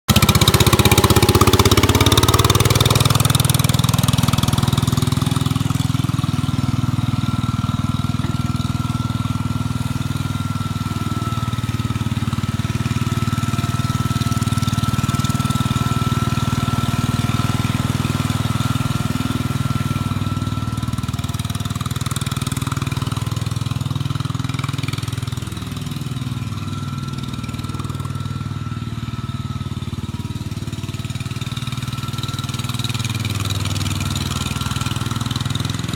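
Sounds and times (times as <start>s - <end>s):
tractor engine running: 0.1s - 35.9s.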